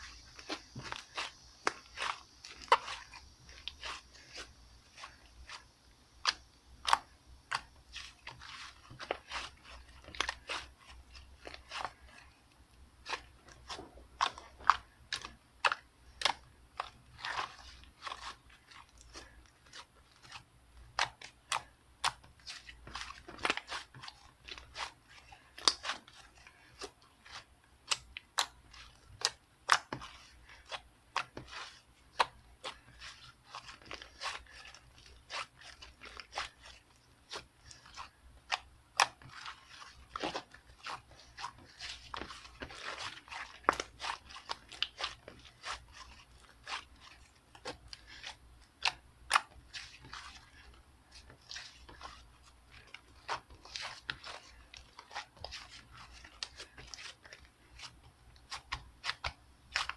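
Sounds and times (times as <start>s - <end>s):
slime squished by hand: 0.1s - 12.3s, 13.0s - 59.9s.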